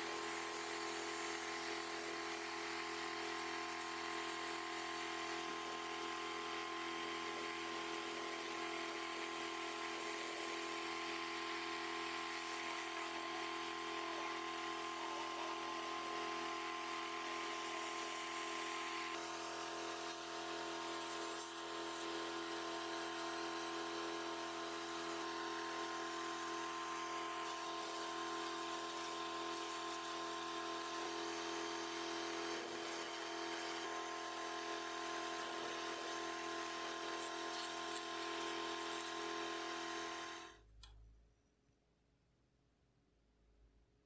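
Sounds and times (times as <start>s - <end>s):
laser buzzing whine with hiss: 0.0s - 40.6s.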